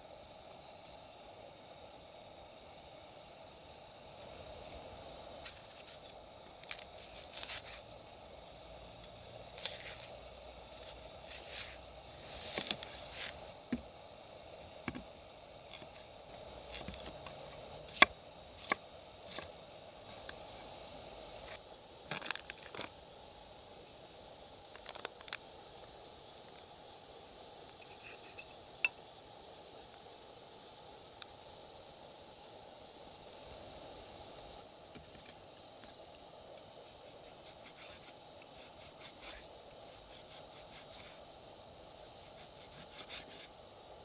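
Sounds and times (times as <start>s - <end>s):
faint steady background noise: 0.0s - 44.0s.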